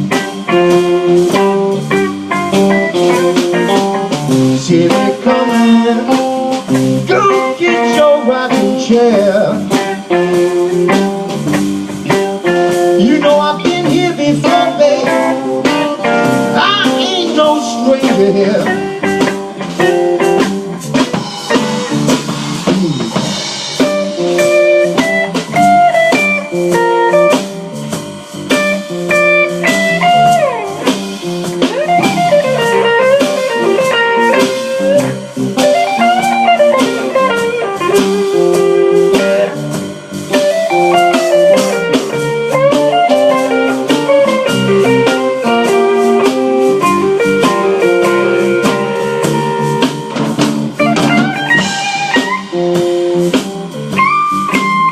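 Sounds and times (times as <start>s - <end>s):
blues guitar lead: 0.0s - 54.9s
steady drum beat: 0.0s - 54.9s.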